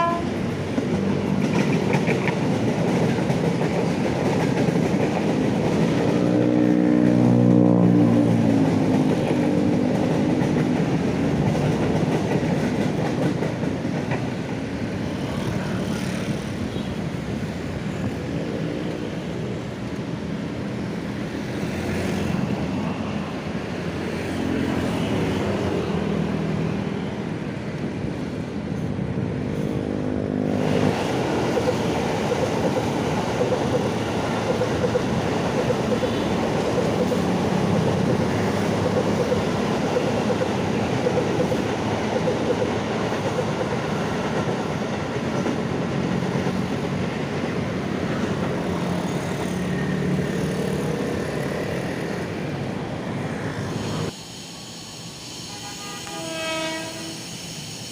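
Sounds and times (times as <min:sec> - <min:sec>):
electric train rumbling on tracks: 0:00.0 - 0:57.9.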